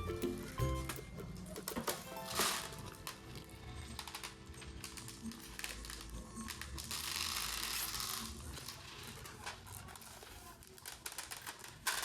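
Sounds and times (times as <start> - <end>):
faint background music: 0.0 - 12.0
packaging rustling: 0.8 - 12.0.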